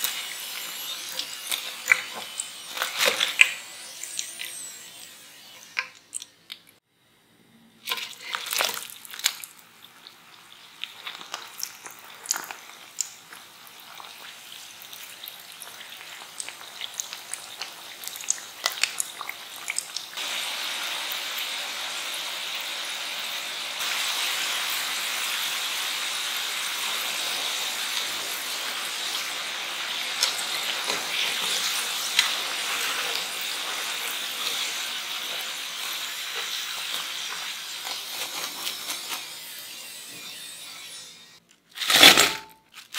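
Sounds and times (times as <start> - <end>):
potatoes sizzling in hot oil: 0.0 - 6.0, 7.9 - 40.6.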